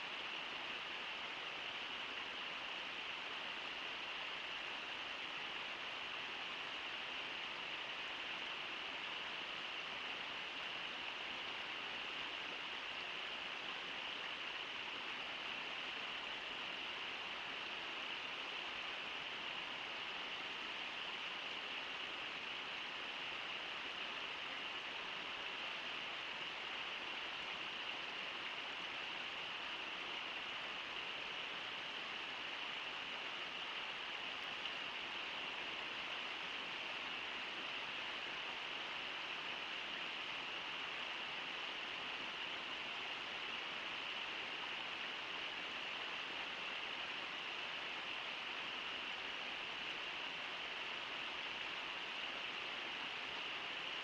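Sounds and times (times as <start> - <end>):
river water pouring over falls: 0.0 - 54.0.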